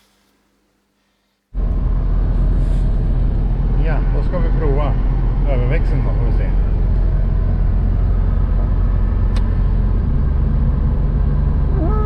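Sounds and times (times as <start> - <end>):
car engine drone inside cabin: 1.5 - 12.0.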